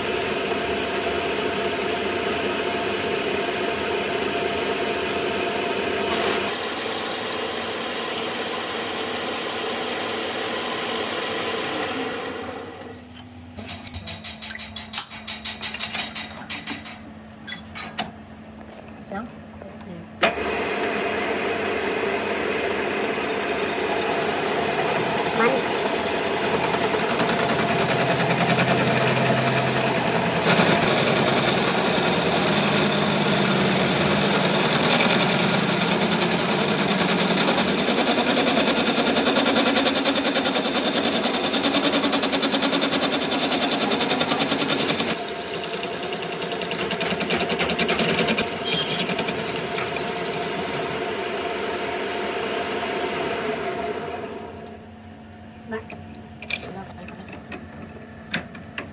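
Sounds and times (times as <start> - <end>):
workshop machine rattling: 0.0 - 11.0, 11.6 - 18.2, 18.8 - 54.9, 55.7 - 58.9.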